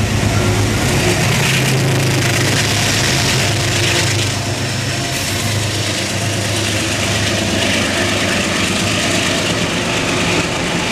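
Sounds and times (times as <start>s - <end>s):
diesel locomotive engine humming: 0.0s - 10.9s.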